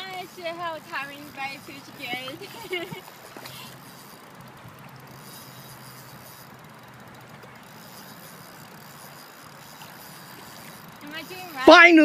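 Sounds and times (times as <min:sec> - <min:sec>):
fishing reel clicking: 0:00.0 - 0:12.0.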